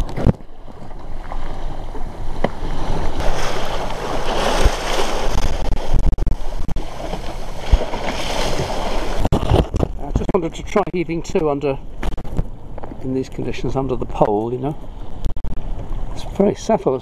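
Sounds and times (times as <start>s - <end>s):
wind buffeting microphone: 0.0s - 16.3s
water splashing along hull: 0.0s - 17.0s.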